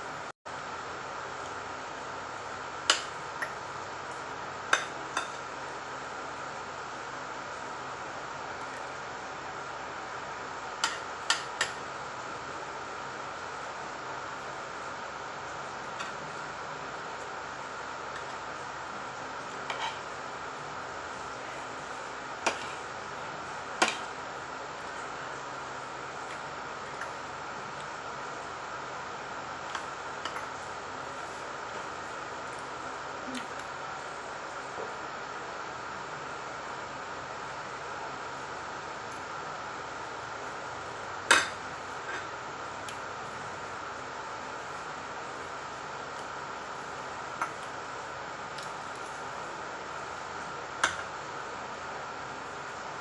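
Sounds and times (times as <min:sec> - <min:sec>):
steady background hiss: 0:00.0 - 0:53.0.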